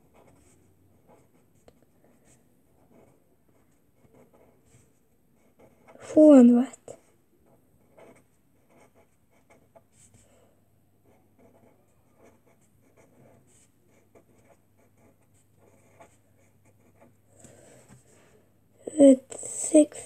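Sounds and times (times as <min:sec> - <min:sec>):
pencil writing on paper: 0:00.0 - 0:10.2, 0:11.0 - 0:18.1.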